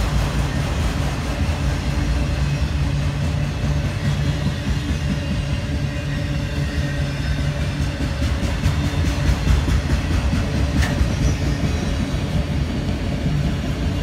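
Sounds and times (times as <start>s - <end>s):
train passing rumble: 0.0s - 14.0s.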